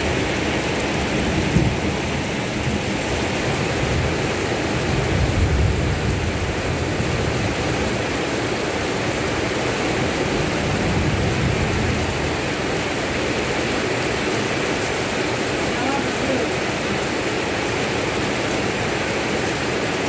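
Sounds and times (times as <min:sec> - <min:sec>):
rain on concrete road: 0:00.0 - 0:20.0.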